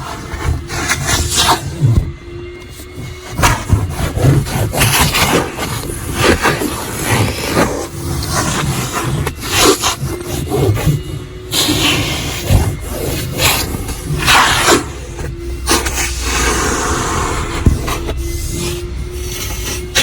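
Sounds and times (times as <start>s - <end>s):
car vacuum running: 0.0s - 20.0s
vacuum nozzle scraping upholstery: 0.0s - 20.0s.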